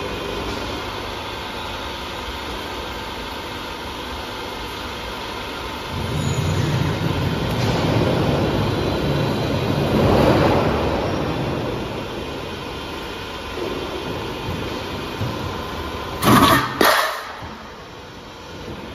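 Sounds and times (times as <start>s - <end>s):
roll forming machine running: 0.0s - 18.9s.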